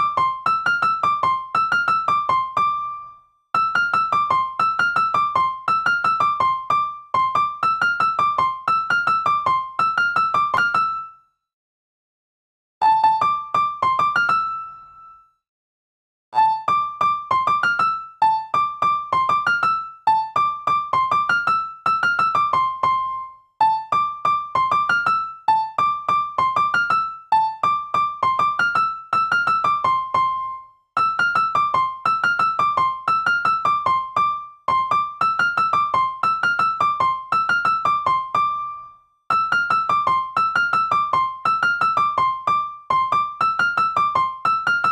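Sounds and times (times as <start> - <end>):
light keyboard melody: 0.0 - 11.3, 12.8 - 15.3, 16.4 - 44.9.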